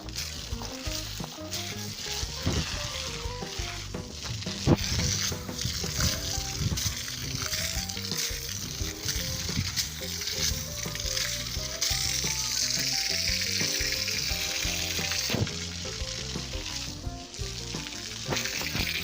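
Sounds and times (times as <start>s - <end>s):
continuous hiss: 0.0s - 19.0s.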